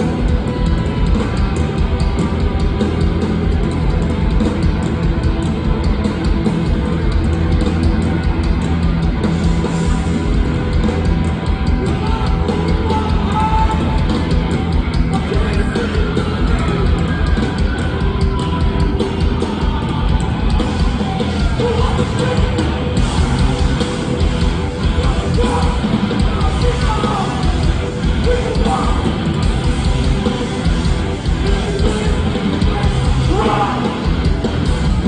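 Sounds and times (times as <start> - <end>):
hardcore punk band playing live: 0.0 - 35.0.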